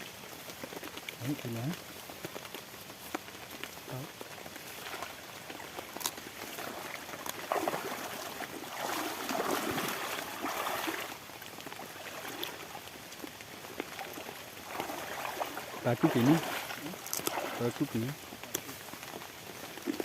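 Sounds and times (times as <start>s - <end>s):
rain and running water: 0.0s - 20.0s.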